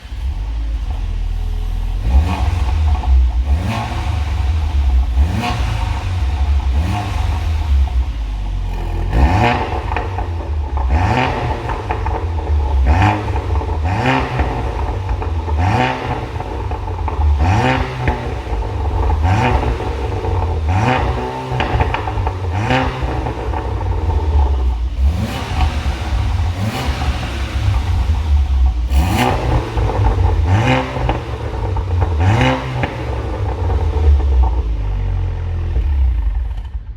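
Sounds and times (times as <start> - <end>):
car engine revving: 0.0 - 36.9
low burbling engine idle: 0.0 - 36.9.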